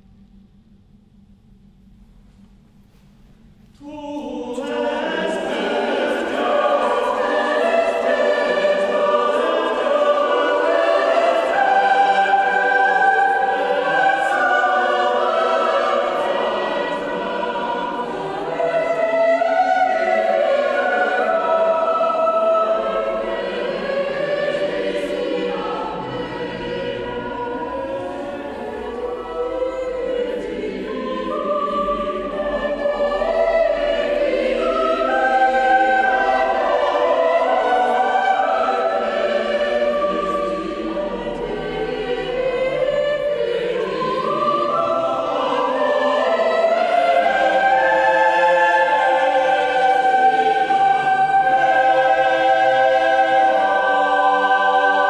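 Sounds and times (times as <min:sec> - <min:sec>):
mixed choir singing: 0:03.8 - 0:55.0.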